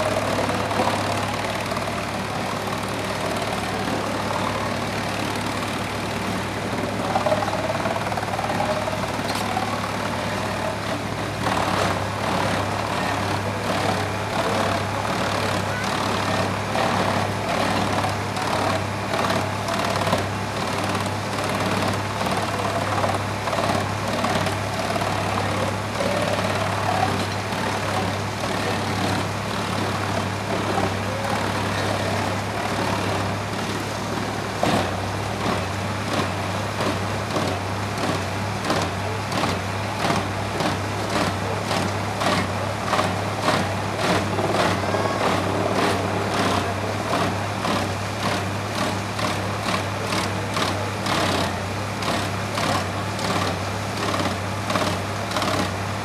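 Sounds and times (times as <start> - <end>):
tractor engine running: 0.0 - 56.0
wood chipper chewing logs: 0.0 - 56.0.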